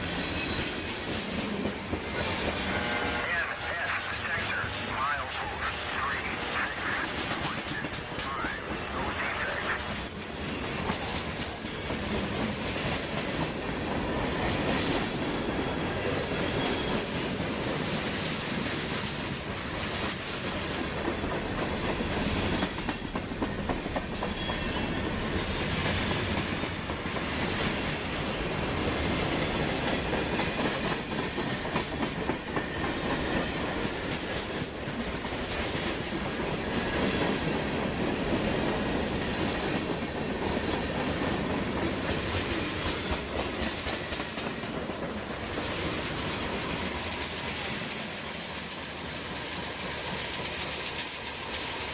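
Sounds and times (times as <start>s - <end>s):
train wheels clacking on rails: 0.0s - 4.8s, 6.4s - 51.9s.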